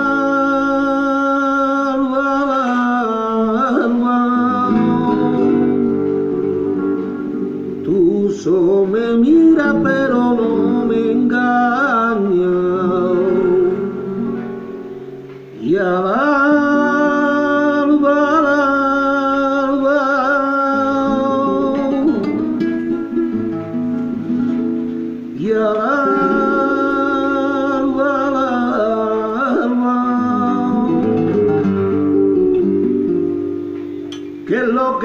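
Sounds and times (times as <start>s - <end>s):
man singing ornamented phrases: 0.0s - 14.7s, 15.6s - 23.5s, 25.3s - 31.6s, 34.2s - 35.0s
guitars playing: 0.0s - 35.0s.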